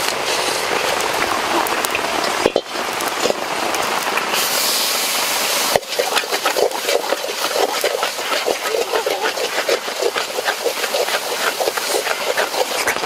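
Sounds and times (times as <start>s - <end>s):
chicken frying in a wok: 0.0s - 13.0s.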